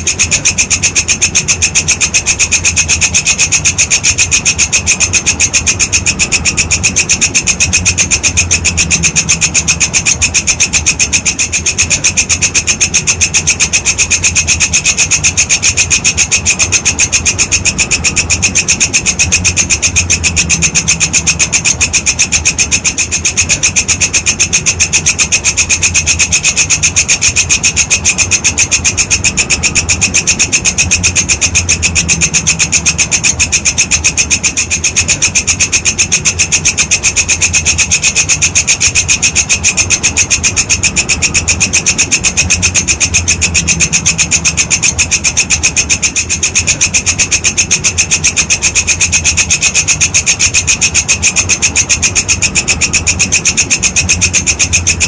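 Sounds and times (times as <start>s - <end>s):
grasshopper stridulating: 0.0s - 55.0s.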